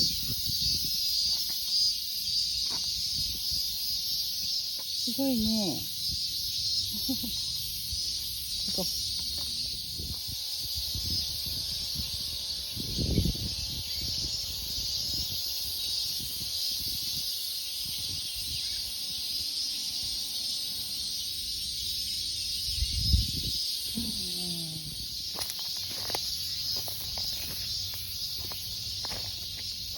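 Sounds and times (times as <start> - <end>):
cicadas buzzing: 0.0 - 29.9.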